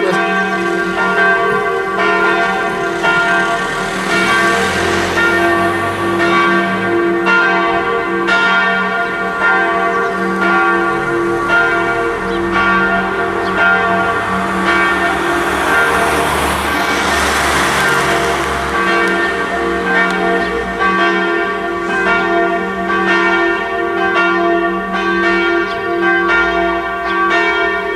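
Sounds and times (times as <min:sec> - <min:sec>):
church bells ringing: 0:00.0 - 0:27.9.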